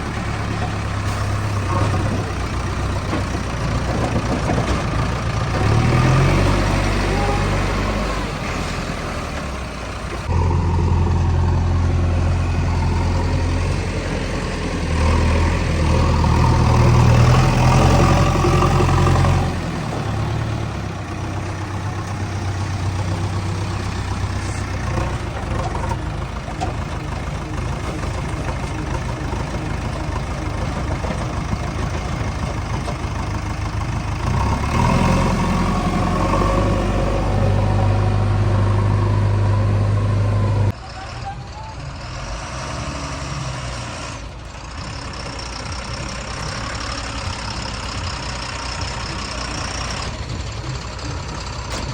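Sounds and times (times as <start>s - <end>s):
backhoe diesel engine running: 0.0s - 51.9s.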